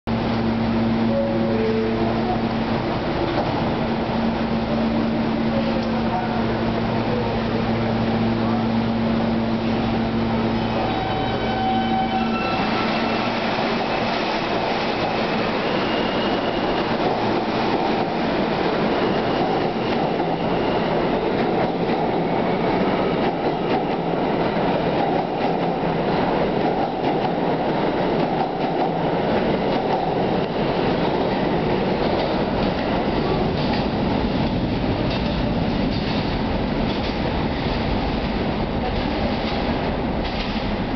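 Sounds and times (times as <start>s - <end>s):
subway train rumble: 0.0s - 40.9s.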